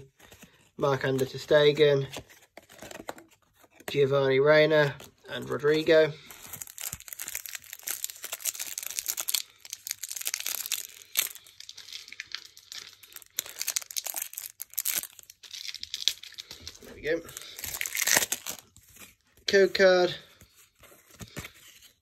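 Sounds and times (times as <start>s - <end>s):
card wrapper tearing and crinkling: 0.0s - 19.7s.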